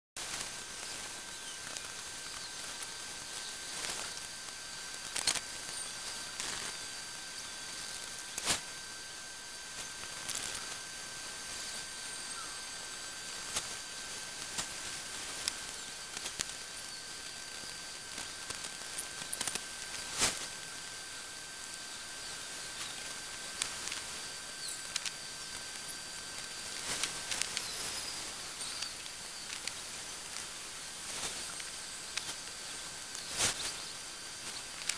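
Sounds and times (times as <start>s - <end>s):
steady hiss: 0.2s - 34.9s
thin high whine: 0.2s - 34.9s.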